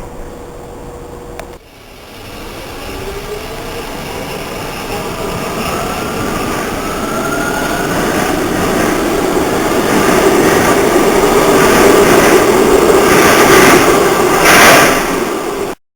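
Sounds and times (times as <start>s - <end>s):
train running on rails: 0.0s - 15.8s
faint whine rising in pitch: 0.1s - 12.9s.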